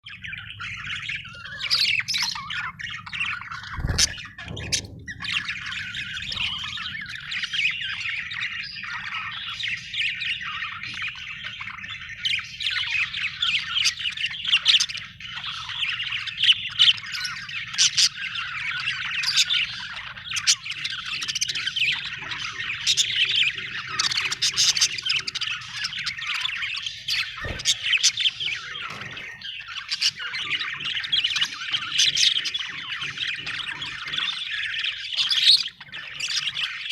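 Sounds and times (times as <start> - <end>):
budgerigar chirping: 0.1 - 36.9.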